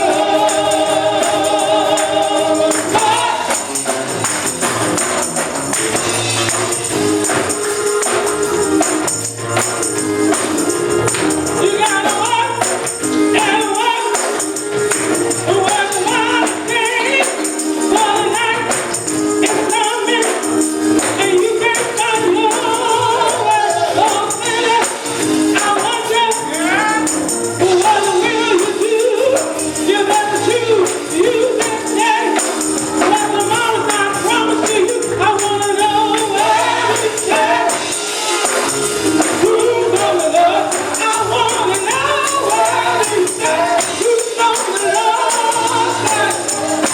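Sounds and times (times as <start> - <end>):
group singing gospel: 0.0 - 46.9
musical accompaniment: 0.0 - 46.9
tambourine shaking: 0.0 - 46.9.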